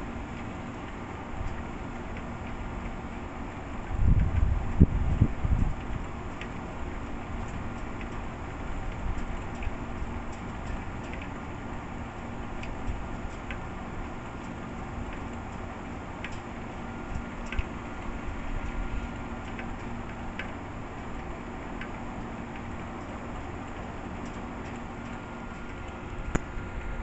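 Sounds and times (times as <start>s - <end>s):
rainwater dripping ticks: 0.0s - 27.0s.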